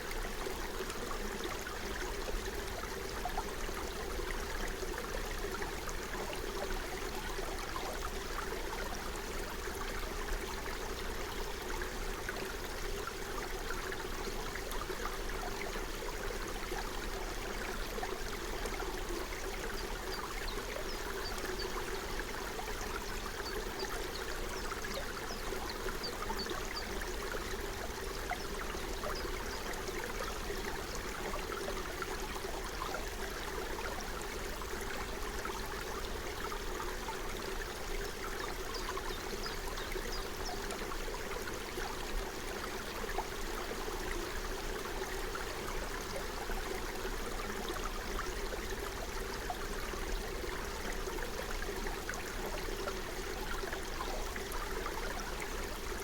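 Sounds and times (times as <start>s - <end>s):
forest stream babbling: 0.0s - 56.0s.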